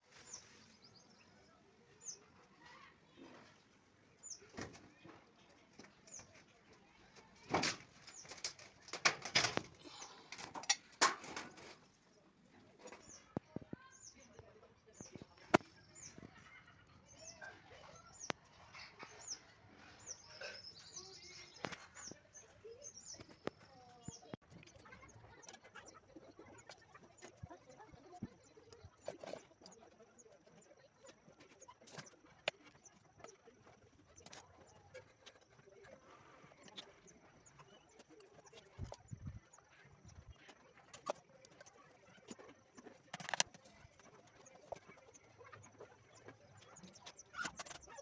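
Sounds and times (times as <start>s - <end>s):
small bird chirping: 0.0s - 8.8s, 11.9s - 48.0s.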